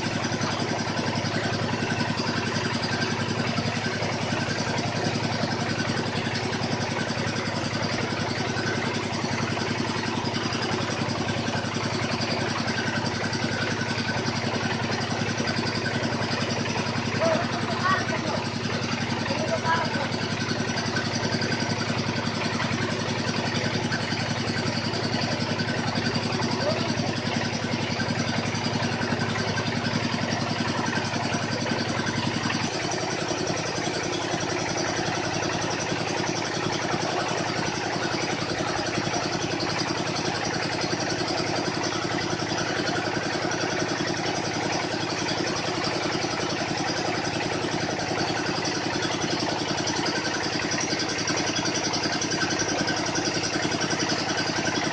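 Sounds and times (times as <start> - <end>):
drilling machine engine running: 0.0 - 54.9.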